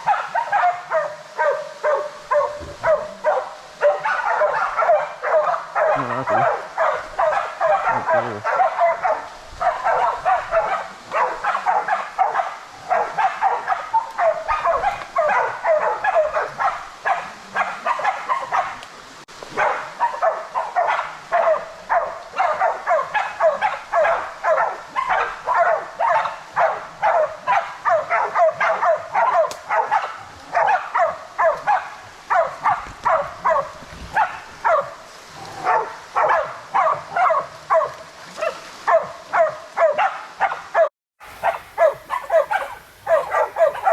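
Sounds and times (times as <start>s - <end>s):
dogs barking rapidly: 0.0s - 18.8s, 19.5s - 35.0s, 35.6s - 43.9s.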